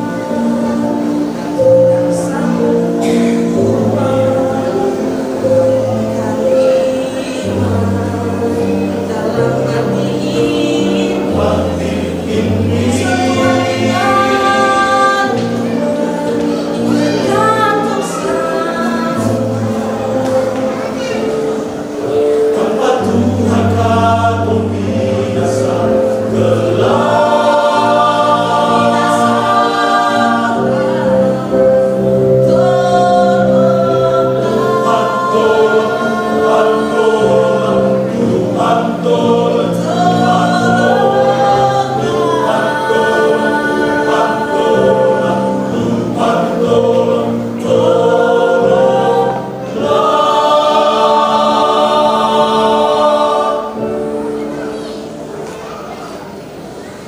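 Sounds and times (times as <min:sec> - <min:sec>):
church choir singing: 0:00.0 - 0:57.0.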